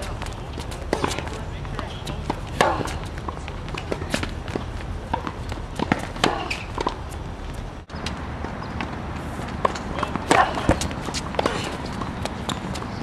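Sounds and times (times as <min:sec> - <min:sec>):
racket striking tennis ball: 0:00.0 - 0:07.2, 0:08.0 - 0:12.9
ball bouncing: 0:00.0 - 0:13.0.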